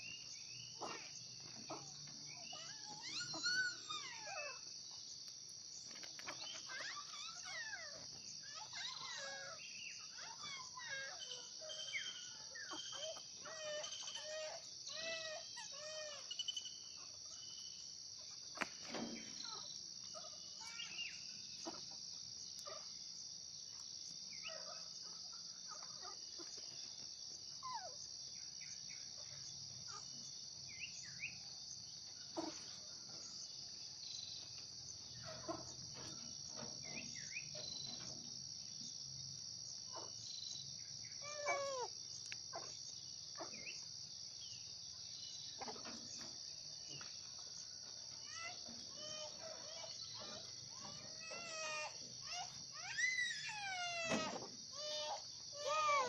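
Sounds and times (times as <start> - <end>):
insect chorus buzzing: 0.0 - 56.0.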